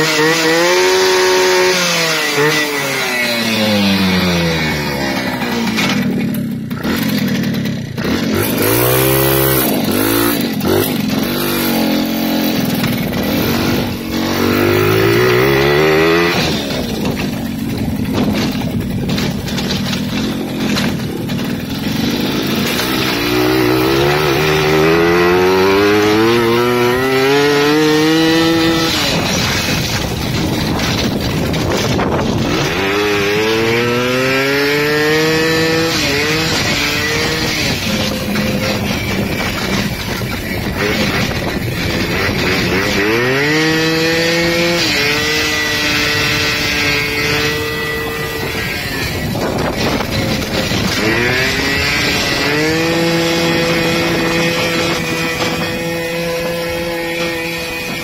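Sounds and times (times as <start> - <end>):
moped engine revving: 0.0 - 58.0.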